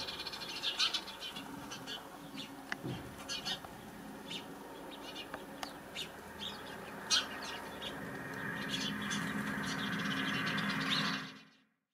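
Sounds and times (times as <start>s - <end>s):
sparrows chirping: 0.0s - 11.7s.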